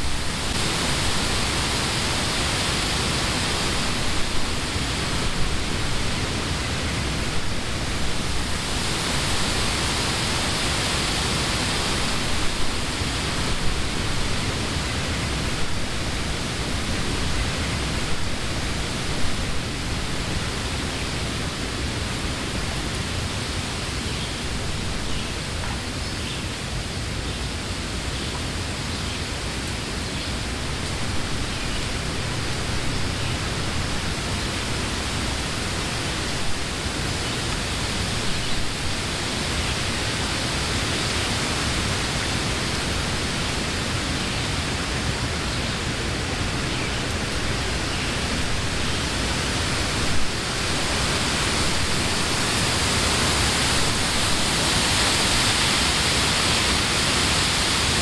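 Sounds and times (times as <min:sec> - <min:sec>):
wind through tree leaves: 0:00.0 - 0:58.0.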